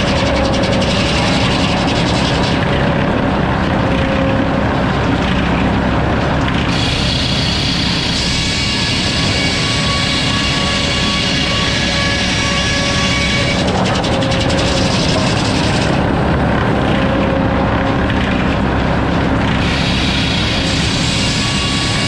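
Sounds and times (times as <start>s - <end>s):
sawmill sawing: 0.0s - 22.0s.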